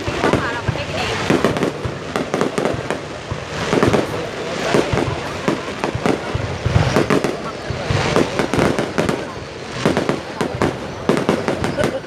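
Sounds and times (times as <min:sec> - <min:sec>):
crowd rumble: 0:00.0 - 0:12.0
fireworks booming and crackling: 0:00.0 - 0:12.0.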